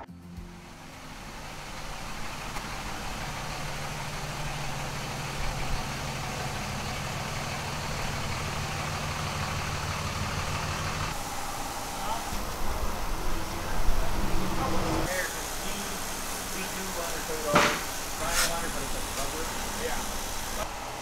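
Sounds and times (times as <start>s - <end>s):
truck engine running slowly: 0.0s - 21.0s.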